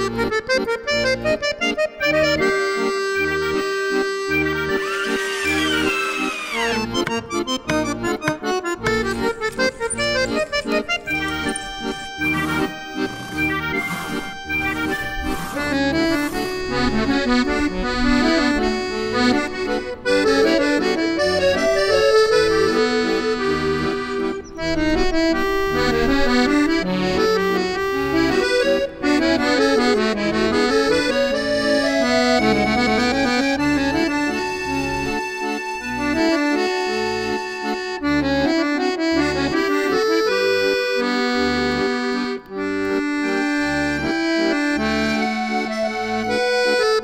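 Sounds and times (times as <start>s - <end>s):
accordion music: 0.0s - 47.0s.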